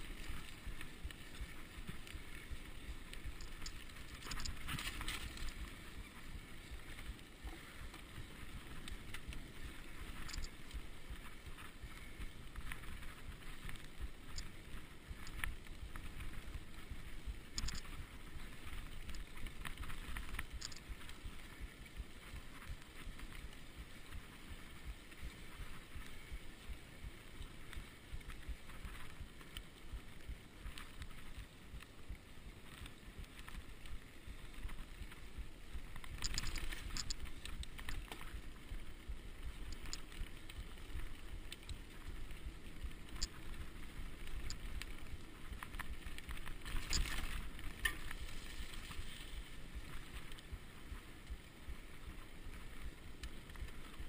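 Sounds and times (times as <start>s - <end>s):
rolling tyre noise: 0.0s - 54.0s.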